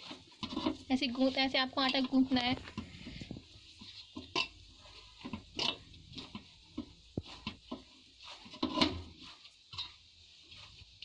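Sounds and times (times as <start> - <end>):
dough thumps and squishes: 0.0 - 11.0.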